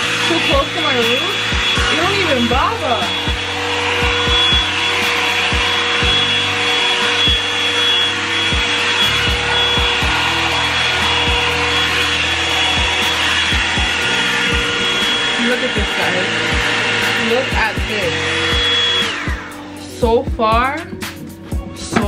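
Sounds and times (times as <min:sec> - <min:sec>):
hot air brush whirring: 0:00.0 - 0:22.0.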